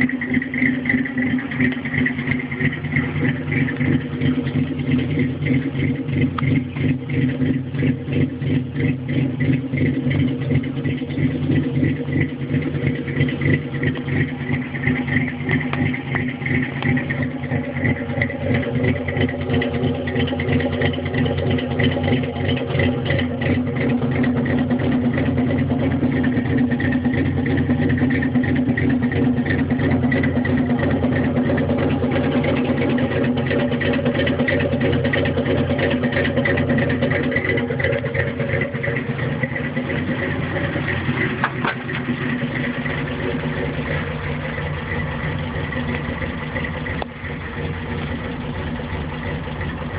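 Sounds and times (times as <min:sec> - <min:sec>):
pickup engine idling: 0:00.0 - 0:49.9.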